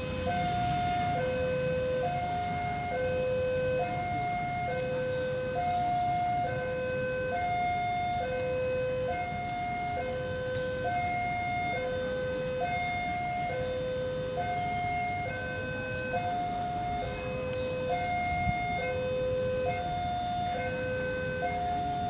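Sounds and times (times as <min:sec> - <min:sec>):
two-tone level crossing alarm: 0:00.0 - 0:22.0.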